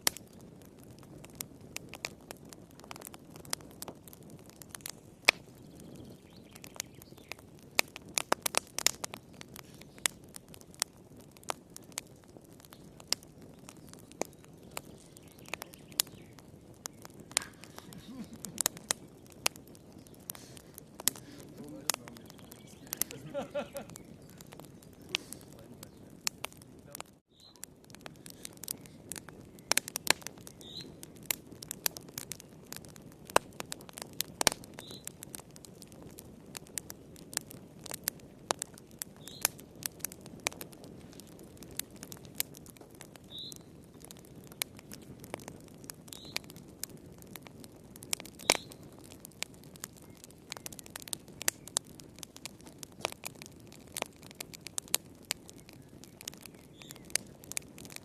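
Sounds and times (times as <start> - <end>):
fire crackling and popping: 0.0 - 58.0
low hiss of burning: 0.0 - 58.0.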